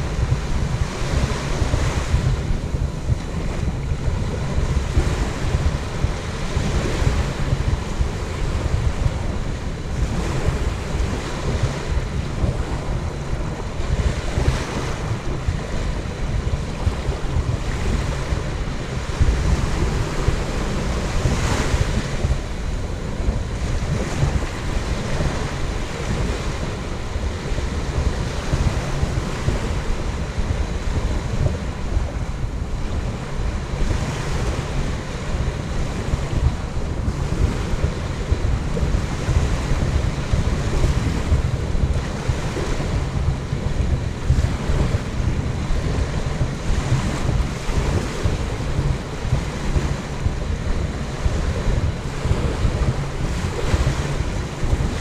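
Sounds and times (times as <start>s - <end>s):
waves washing onto beach: 0.0s - 55.0s
wind buffeting microphone: 0.0s - 55.0s.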